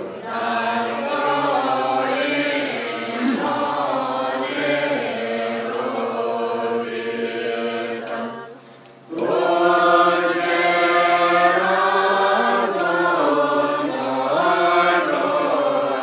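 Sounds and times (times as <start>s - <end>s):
women chanting in unison: 0.0s - 16.0s.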